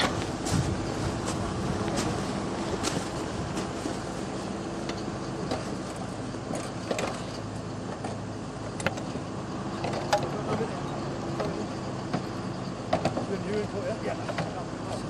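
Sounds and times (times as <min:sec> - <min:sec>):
snow vehicle engine running: 0:00.0 - 0:15.0.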